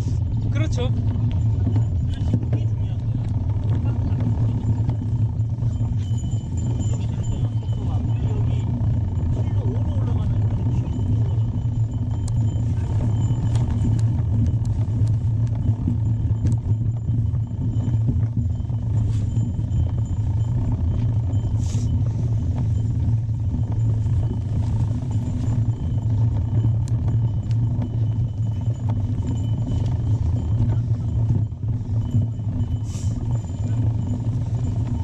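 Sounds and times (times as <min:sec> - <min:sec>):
tyres rumbling on trail: 0:00.0 - 0:35.0
bike clicks and rattles: 0:00.2 - 0:35.0.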